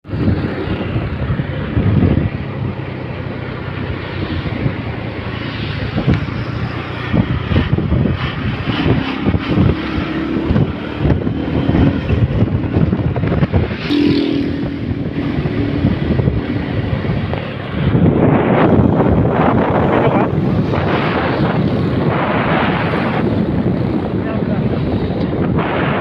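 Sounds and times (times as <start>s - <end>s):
vehicle engine humming: 0.0s - 26.0s
wind buffeting microphone: 0.0s - 26.0s.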